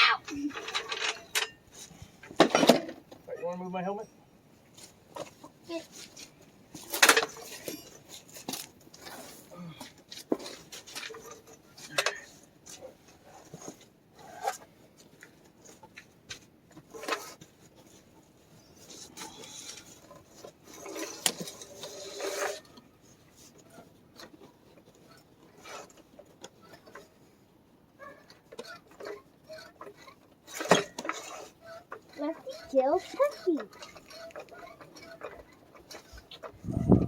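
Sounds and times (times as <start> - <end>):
rubbing and scraping: 4.6 - 9.5, 10.1 - 27.4, 28.0 - 37.0.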